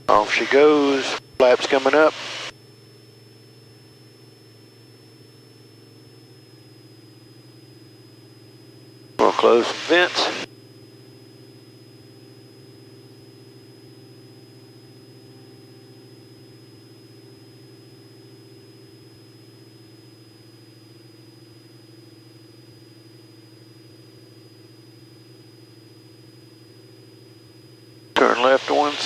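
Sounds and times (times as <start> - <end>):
faint propeller plane droning: 0.0 - 29.0.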